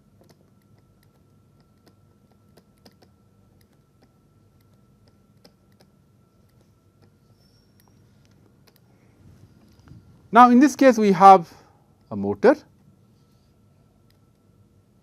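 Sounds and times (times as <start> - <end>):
faint steady high hum: 0.0 - 15.0.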